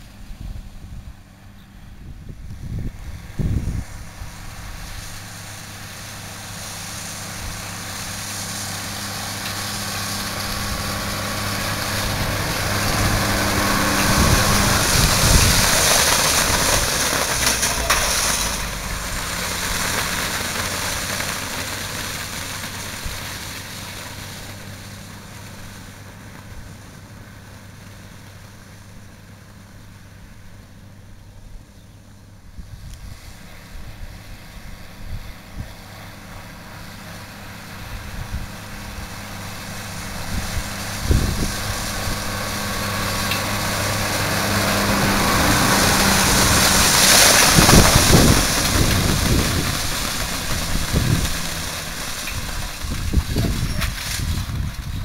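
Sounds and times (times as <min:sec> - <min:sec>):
tractor engine running: 0:00.0 - 0:55.0
rake wheels sweeping hay: 0:02.3 - 0:55.0.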